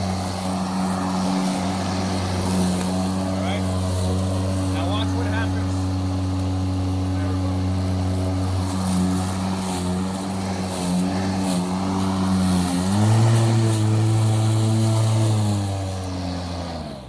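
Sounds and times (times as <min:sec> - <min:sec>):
electric lawn mower motor hum: 0:00.0 - 0:17.0.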